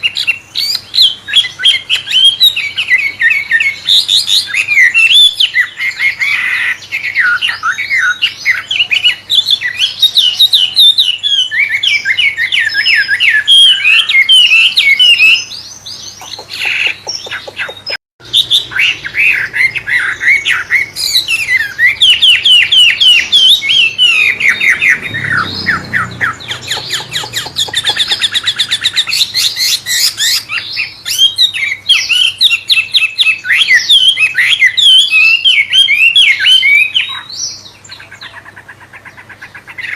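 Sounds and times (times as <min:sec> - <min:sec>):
songbird singing fast trills: 0:00.0 - 0:39.9.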